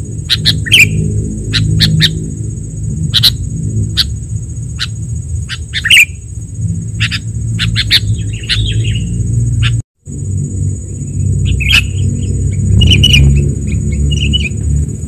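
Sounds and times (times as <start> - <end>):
low rumble: 0.0 - 15.0
bird chirping and warbling: 0.1 - 9.8, 10.8 - 14.8.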